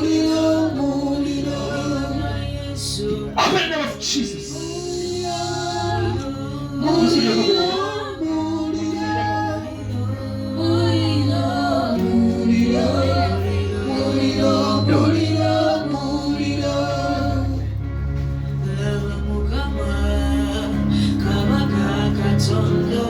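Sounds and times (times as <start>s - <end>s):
keyboard and bass chords: 0.0s - 23.0s
voices singing: 0.0s - 23.0s.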